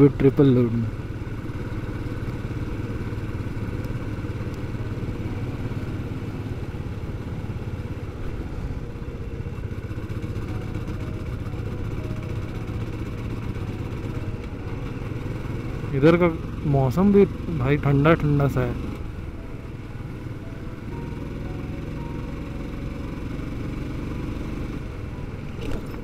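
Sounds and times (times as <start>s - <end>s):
motorcycle engine running: 0.0s - 26.0s
road noise: 0.0s - 26.0s.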